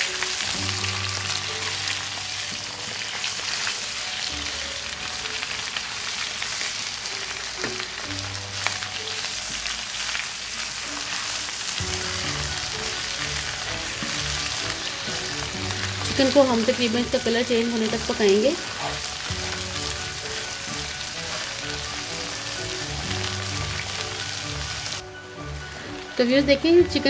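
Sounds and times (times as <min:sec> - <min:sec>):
background music: 0:00.0 - 0:27.0
chicken sizzling in wok: 0:00.0 - 0:27.0.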